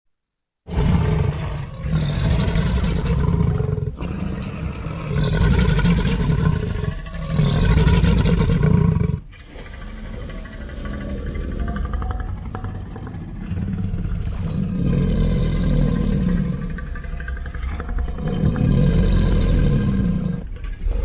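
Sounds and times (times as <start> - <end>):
low growl: 0.6 - 21.0
dinosaur roars: 0.7 - 21.0.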